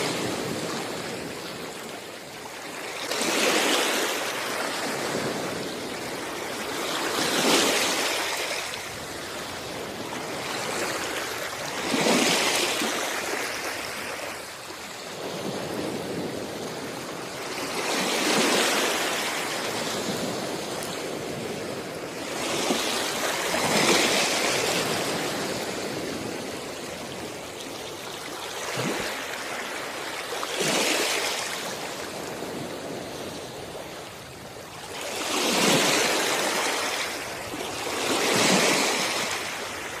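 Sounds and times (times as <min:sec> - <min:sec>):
sea waves washing onto shore: 0:00.0 - 0:40.0.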